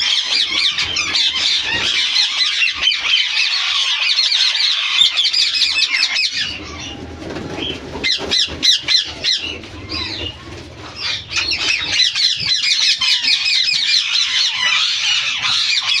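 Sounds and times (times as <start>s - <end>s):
parakeets squawking: 0.0s - 16.0s.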